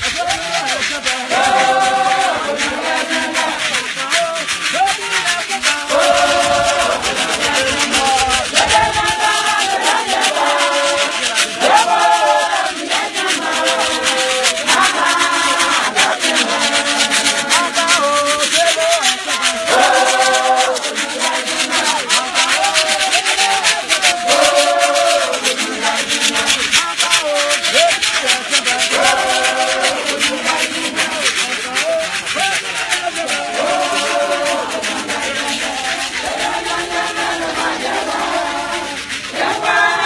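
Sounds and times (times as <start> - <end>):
choir singing: 0.0 - 40.0
shaker rattling: 0.0 - 40.0.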